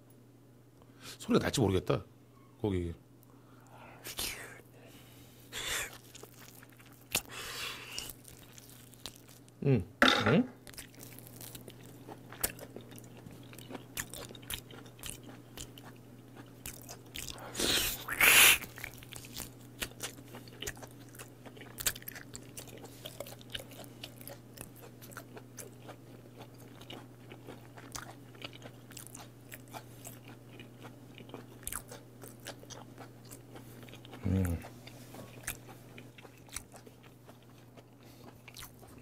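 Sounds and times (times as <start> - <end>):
close-miked chewing: 5.6 - 9.6, 10.7 - 39.0.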